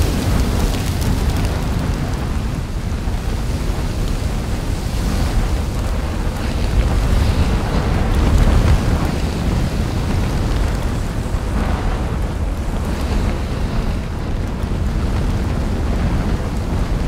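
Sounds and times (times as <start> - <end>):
volcano deep rumbling roar: 0.0 - 17.0.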